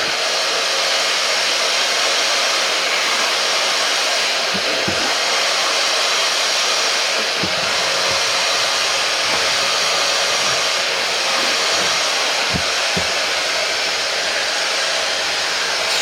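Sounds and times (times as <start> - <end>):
carpet cleaner suction whoosh: 0.0 - 16.0.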